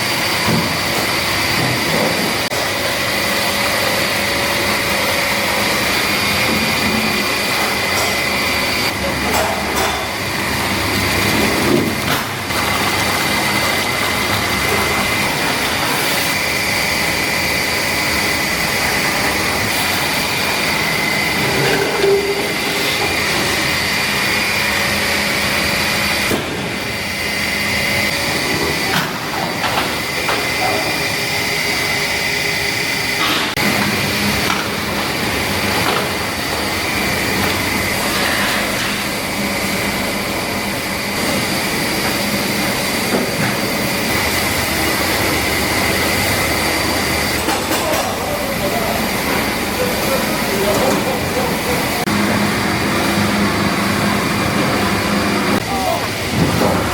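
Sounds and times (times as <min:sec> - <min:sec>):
washing machine whining: 0:00.0 - 0:56.9.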